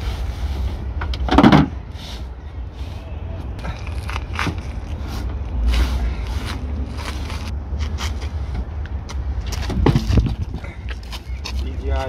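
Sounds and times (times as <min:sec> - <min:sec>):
steady low rumble: 0:00.0 - 0:11.8.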